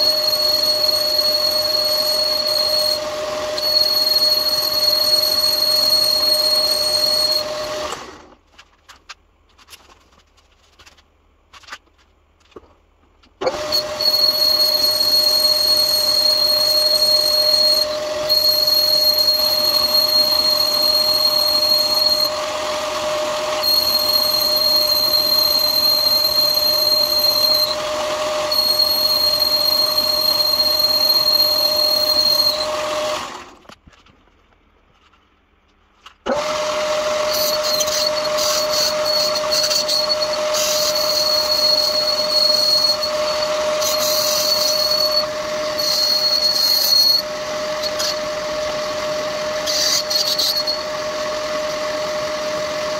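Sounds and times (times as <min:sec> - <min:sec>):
metal lathe whining: 0:00.0 - 0:08.3, 0:13.4 - 0:33.6, 0:36.3 - 0:52.9.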